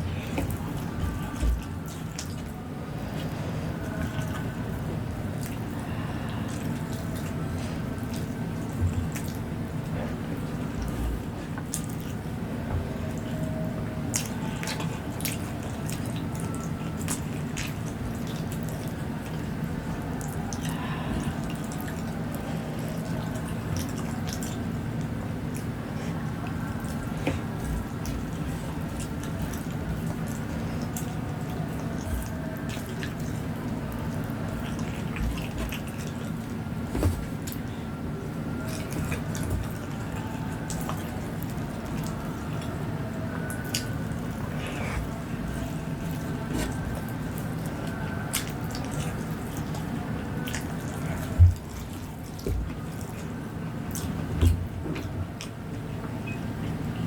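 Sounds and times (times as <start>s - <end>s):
steady low hum: 0.0s - 57.0s
wet chewing and squishing: 0.0s - 57.0s.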